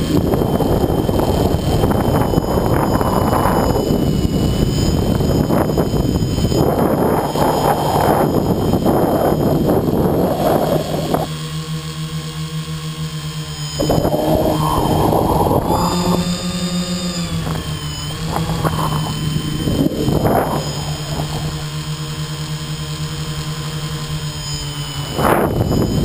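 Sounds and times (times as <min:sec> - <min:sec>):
wind noise on microphone: 0:00.0 - 0:11.5, 0:13.6 - 0:26.0
drone propellers buzzing: 0:00.0 - 0:26.0.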